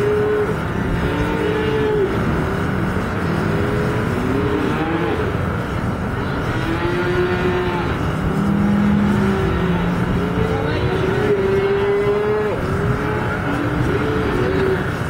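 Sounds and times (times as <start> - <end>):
calves bawling: 0.0 - 15.0
noisy background: 0.0 - 15.0.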